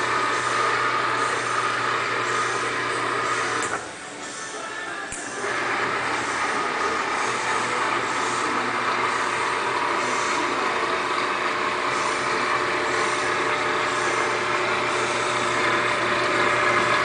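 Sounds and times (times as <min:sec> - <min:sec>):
gate motor humming: 0:00.0 - 0:04.2, 0:05.1 - 0:17.0.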